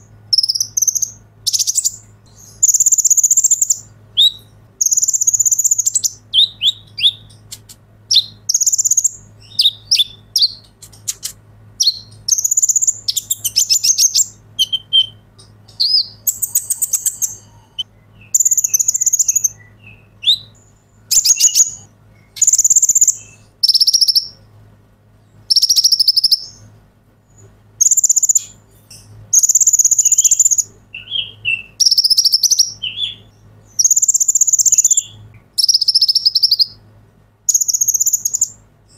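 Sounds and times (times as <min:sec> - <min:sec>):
sunbird singing high trilled phrases: 0:00.0 - 0:24.5, 0:25.2 - 0:26.7, 0:27.3 - 0:36.8, 0:37.5 - 0:38.9.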